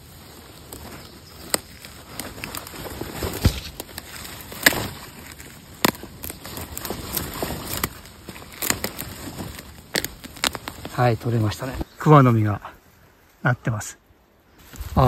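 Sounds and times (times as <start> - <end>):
hand scraping soil and leaves: 0.0 - 12.2.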